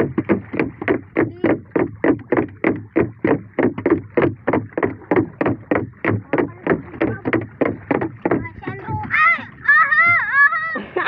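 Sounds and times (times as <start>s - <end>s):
knocking on wooden hull: 0.0s - 10.3s.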